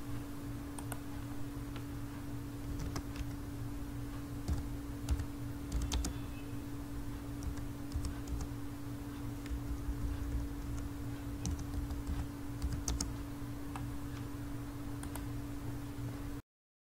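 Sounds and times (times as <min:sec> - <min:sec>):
steady low hum: 0:00.0 - 0:16.4.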